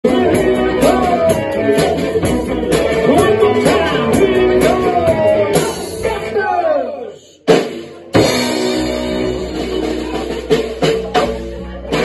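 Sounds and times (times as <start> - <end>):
ukulele band playing blues rock: 0.0 - 6.8, 7.5 - 12.0.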